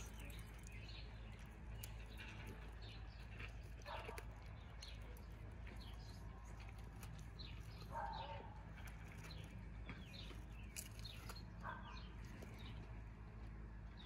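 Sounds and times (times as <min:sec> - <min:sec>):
dog teeth gnawing a bone: 0:00.0 - 0:12.9
birds chirping: 0:00.0 - 0:14.0.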